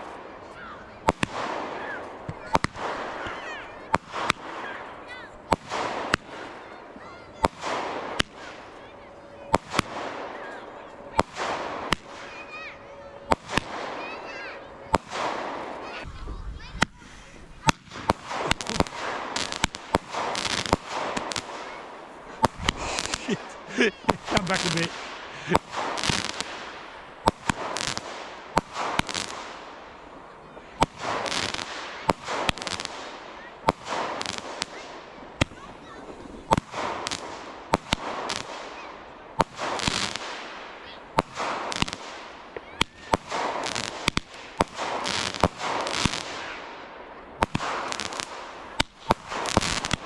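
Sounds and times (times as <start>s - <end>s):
fireworks bangs: 0.0s - 16.1s, 16.8s - 50.0s
fireworks crackle: 0.0s - 16.1s, 16.7s - 50.0s.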